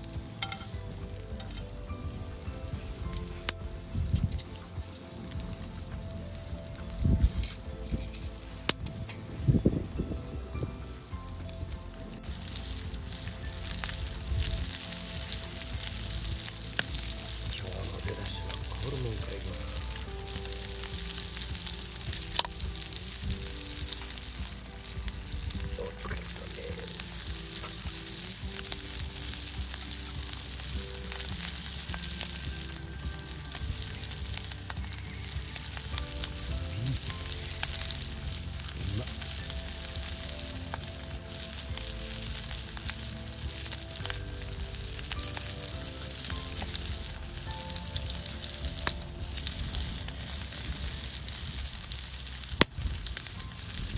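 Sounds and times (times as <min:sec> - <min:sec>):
meat sizzling in a skillet: 0:00.0 - 0:53.9.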